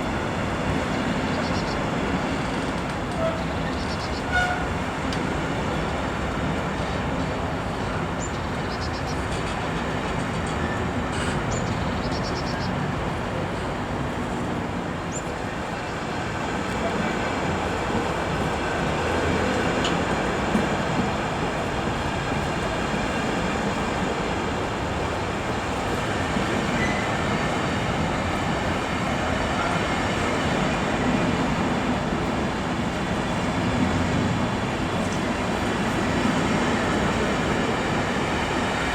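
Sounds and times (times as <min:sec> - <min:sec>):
train wheels rolling on rails: 0:00.0 - 0:38.9.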